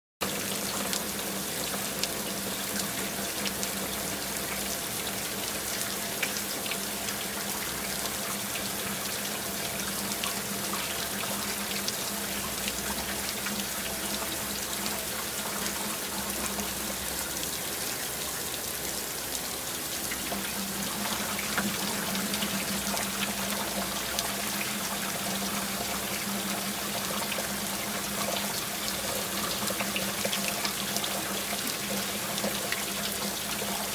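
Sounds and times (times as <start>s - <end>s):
steady rain: 0.2s - 33.9s.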